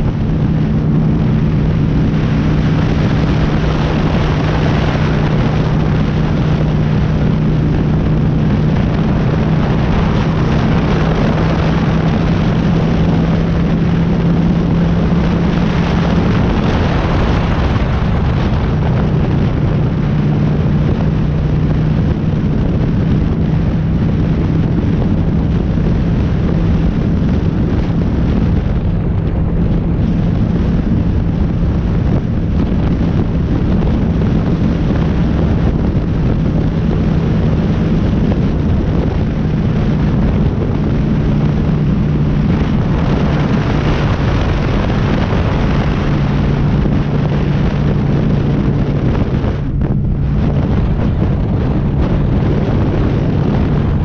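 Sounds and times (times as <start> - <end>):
motorcycle engine running: 0.0 - 54.0
wind rushing on microphone: 0.0 - 54.0.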